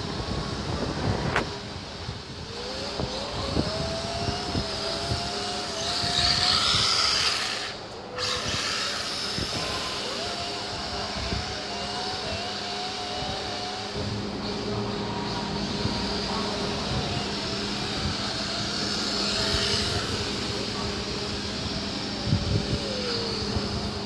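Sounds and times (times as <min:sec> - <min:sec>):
loud hissing noise: 0:00.0 - 0:24.0
rc car motor whining: 0:00.1 - 0:24.0.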